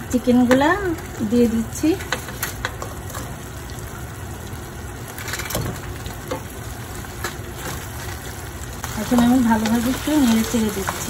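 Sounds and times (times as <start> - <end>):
sauce sizzling in a pan: 0.0 - 11.0.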